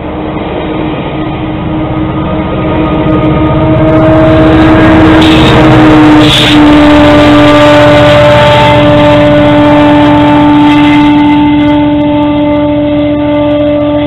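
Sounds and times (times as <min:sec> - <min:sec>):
diesel locomotive engine droning: 0:00.0 - 0:14.0.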